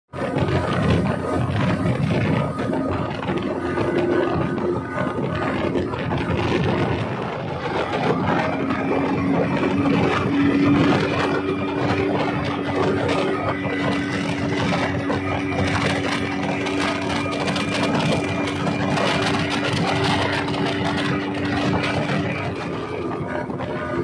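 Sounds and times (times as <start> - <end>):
speedboat engine droning: 0.1 - 24.0
water rushing: 0.2 - 24.0.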